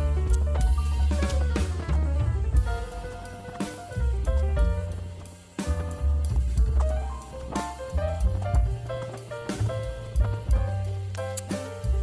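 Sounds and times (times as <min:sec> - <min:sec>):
music with drums bass and guitar: 0:00.0 - 0:12.0.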